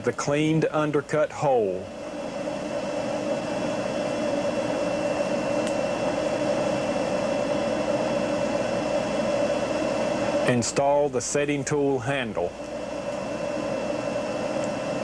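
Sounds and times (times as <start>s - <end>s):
machine hum with faint whine: 0.0s - 15.0s.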